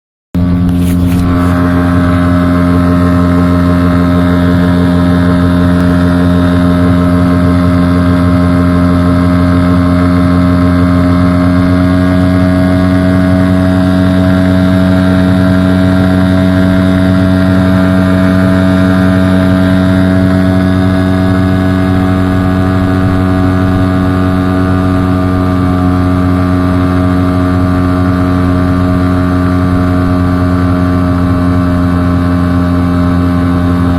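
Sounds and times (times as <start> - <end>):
outboard motor running: 0.4 - 33.9.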